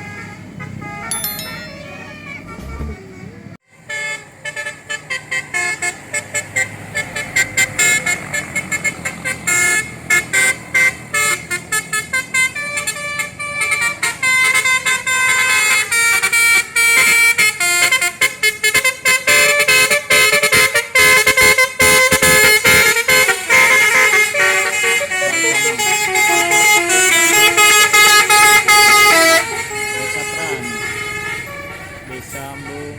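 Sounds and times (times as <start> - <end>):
multi-tone bus horn tune: 0.0 - 2.9, 3.7 - 32.9.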